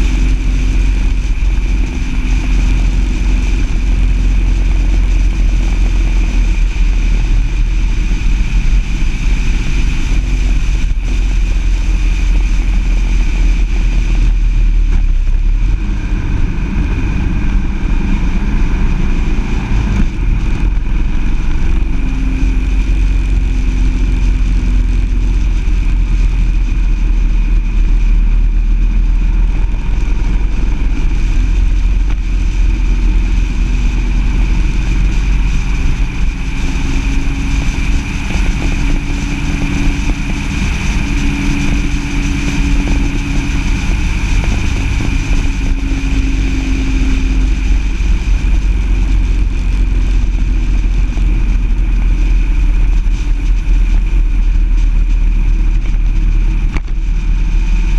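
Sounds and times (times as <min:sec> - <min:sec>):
road rumble: 0:00.0 - 0:57.9
vehicle engine running: 0:00.0 - 0:57.9
wind noise: 0:00.0 - 0:57.9.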